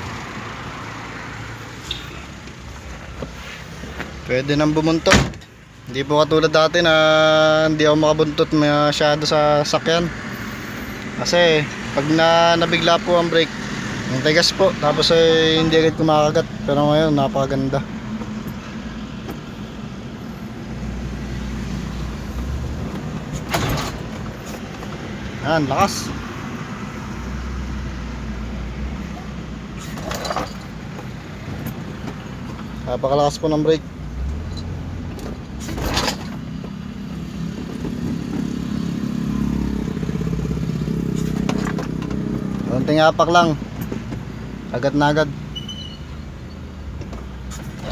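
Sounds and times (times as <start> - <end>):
van engine and road drone: 0.0 - 47.9.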